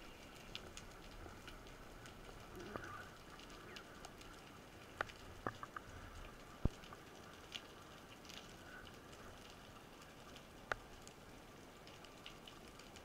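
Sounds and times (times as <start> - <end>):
sharp clicks and crackles: 0.0 - 13.0.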